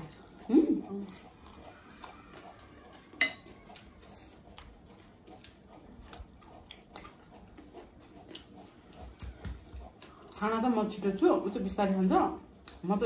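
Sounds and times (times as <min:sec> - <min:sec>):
chewing crunchy snack: 0:00.0 - 0:10.6.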